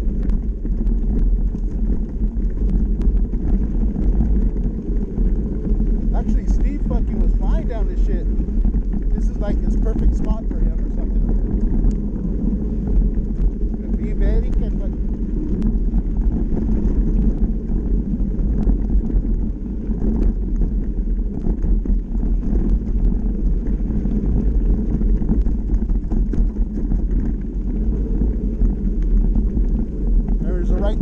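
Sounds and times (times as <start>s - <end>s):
bike clicks and rattles: 0.0s - 31.0s
bike tyres rolling on dirt: 0.0s - 31.0s
wind buffeting microphone: 0.0s - 31.0s.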